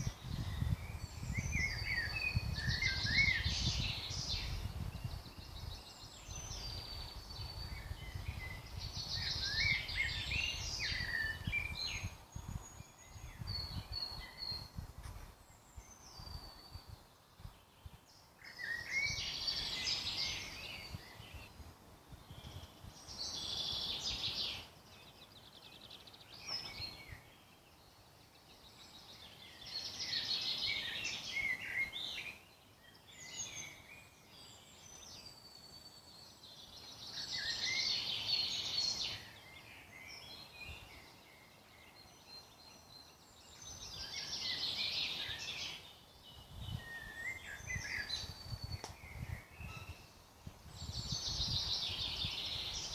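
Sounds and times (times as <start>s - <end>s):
loud bird song phrase: 0.0s - 52.9s
quiet bird chirps and calls: 0.0s - 52.9s.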